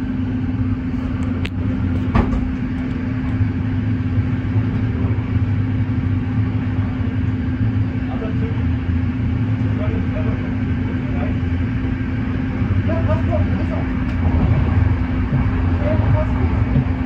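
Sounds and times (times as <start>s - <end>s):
train drone inside carriage: 0.0s - 17.0s.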